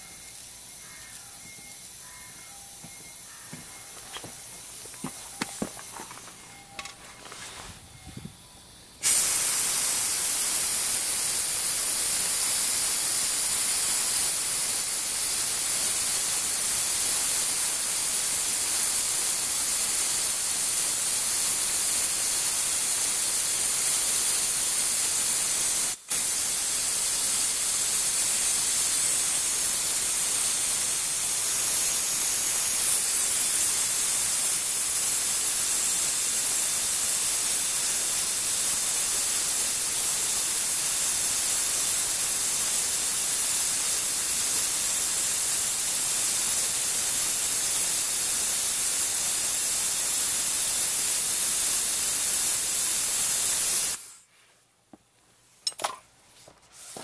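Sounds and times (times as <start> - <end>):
compressed air hissing: 0.0 - 54.3.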